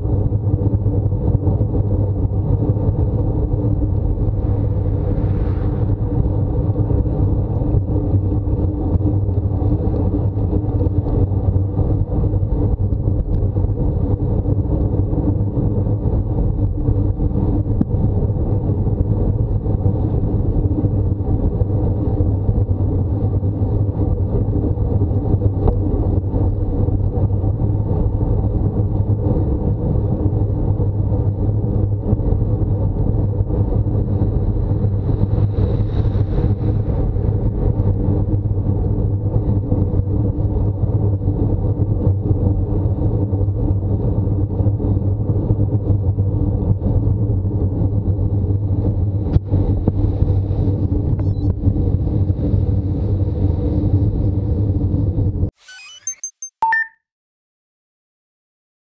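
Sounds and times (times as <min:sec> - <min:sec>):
road and wind noise: 0:00.0 - 0:55.5.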